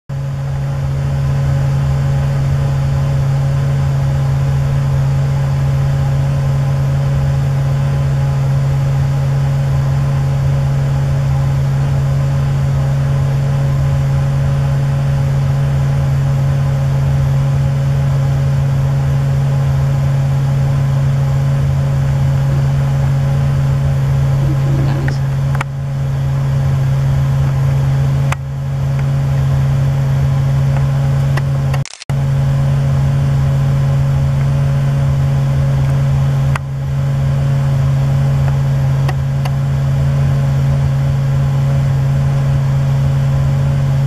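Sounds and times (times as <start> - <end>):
low machine hum: 0.2 - 44.0.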